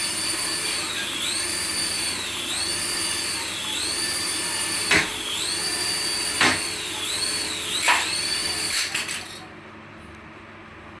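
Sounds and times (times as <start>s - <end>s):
toy electric whine: 0.0s - 9.4s.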